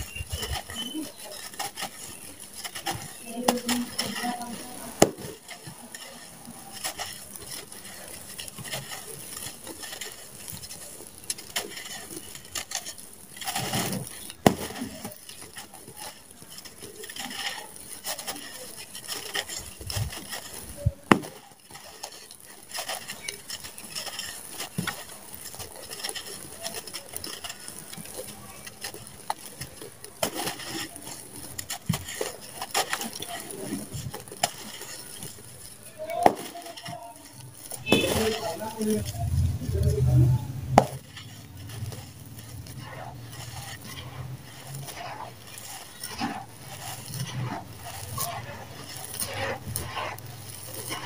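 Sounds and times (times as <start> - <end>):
cement lumps crunching in hands: 0.0 - 51.0
grains and pebbles pattering: 0.0 - 51.0
sharp cracks: 0.0 - 51.0.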